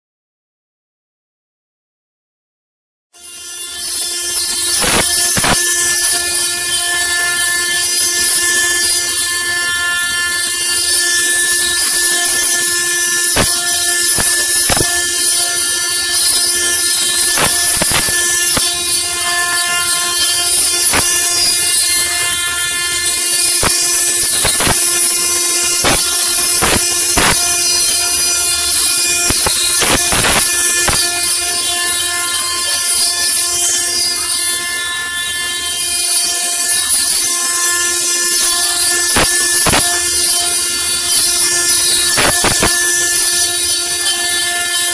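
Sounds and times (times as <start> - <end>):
cutting hiss: 3.2 - 44.9
router spindle whining: 3.2 - 44.9.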